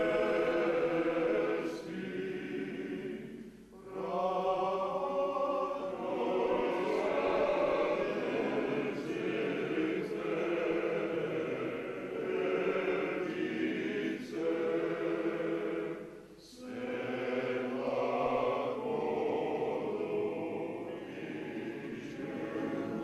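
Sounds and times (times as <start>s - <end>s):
men's choir singing: 0.0s - 23.0s.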